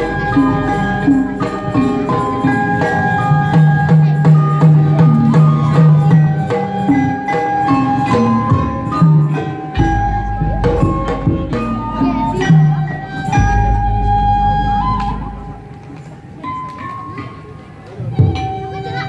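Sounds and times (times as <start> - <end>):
gamelan music: 0.0 - 19.0.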